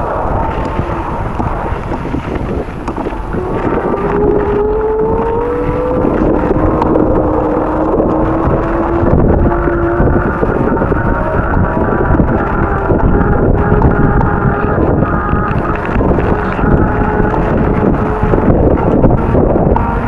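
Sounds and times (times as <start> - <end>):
rising humming tone: 0.0 - 20.0
wind buffeting microphone: 0.0 - 20.0.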